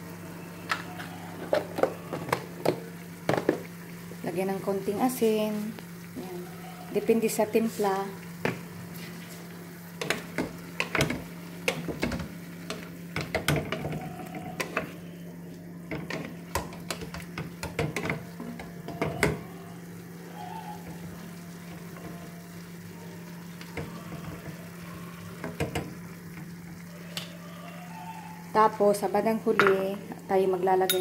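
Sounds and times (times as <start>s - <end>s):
faint sizzle: 0.0s - 31.0s.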